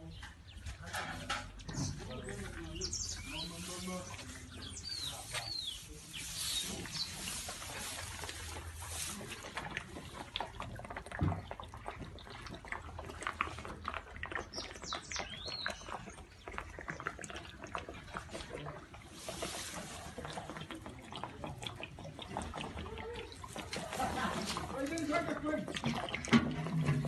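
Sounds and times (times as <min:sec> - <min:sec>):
elephant calf slurping milk: 0:00.0 - 0:27.0.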